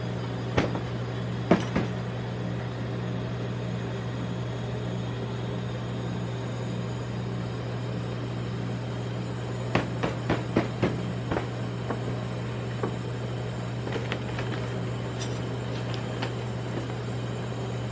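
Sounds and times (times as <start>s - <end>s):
refrigeration unit humming: 0.0s - 17.9s.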